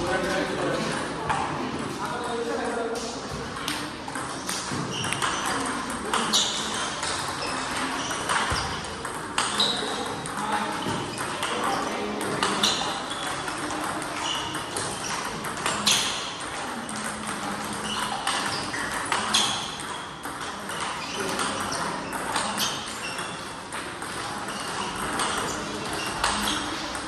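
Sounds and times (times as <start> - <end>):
table tennis balls clicking: 0.0 - 27.0.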